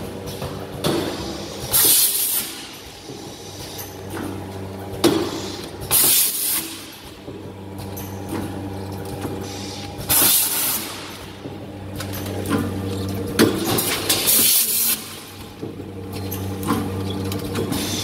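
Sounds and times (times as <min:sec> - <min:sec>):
machine motor hum: 0:00.0 - 0:18.0.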